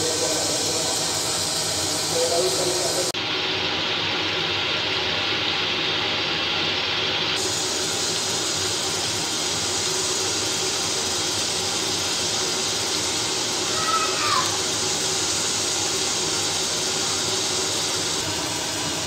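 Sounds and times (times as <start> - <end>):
sauce bubbling and hissing in pan: 0.0 - 19.0.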